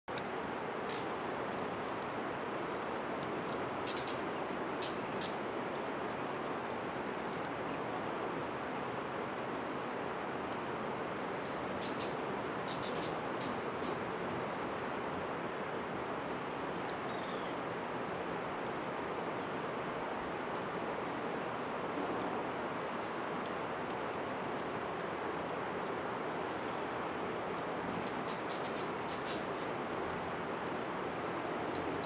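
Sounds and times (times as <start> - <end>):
steady background hiss: 0.1 - 32.0.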